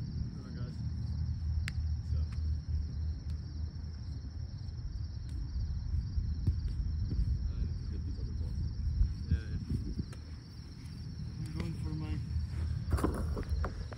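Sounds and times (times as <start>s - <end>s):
high insect trill: 0.0s - 13.9s
wind on microphone: 2.6s - 13.9s.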